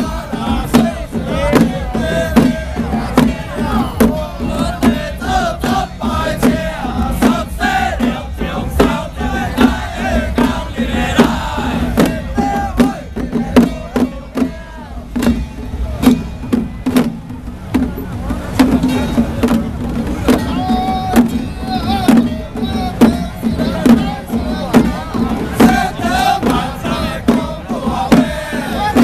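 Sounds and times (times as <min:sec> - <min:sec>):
group chanting and shouting: 0:00.0 - 0:16.2, 0:20.1 - 0:29.0
drums struck on steady beat: 0:00.0 - 0:29.0.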